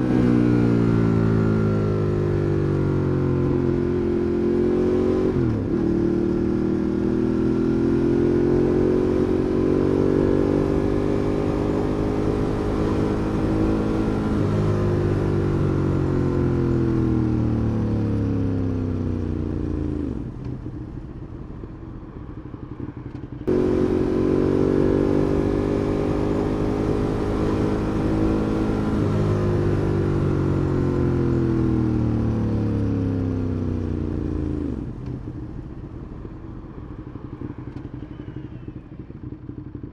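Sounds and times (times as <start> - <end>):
motorcycle engine revving: 0.0 - 21.3, 22.3 - 39.9.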